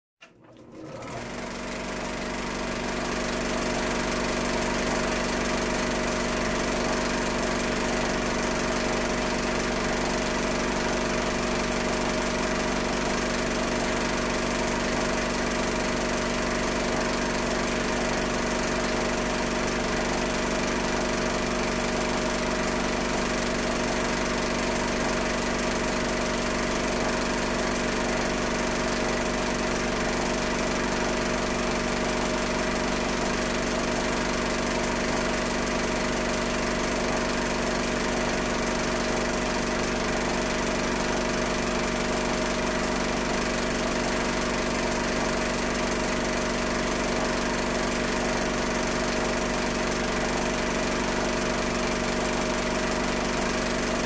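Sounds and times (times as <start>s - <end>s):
film projector whirring: 0.2s - 54.0s.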